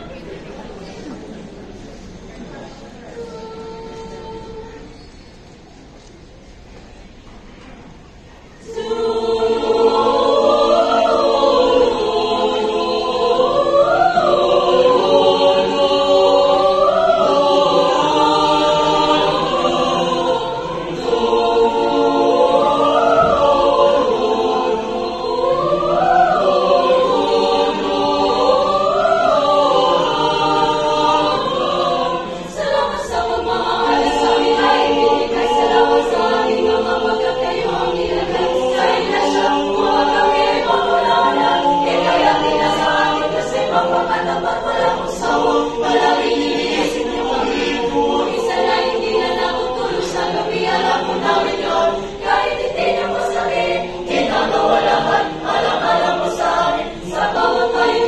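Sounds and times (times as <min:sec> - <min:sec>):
mixed choir singing: 0:00.0 - 0:05.5, 0:07.1 - 0:58.0.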